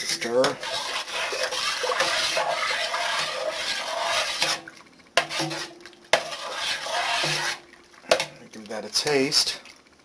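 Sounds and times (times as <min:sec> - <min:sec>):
metal spoon scraping pot: 0:00.0 - 0:08.3.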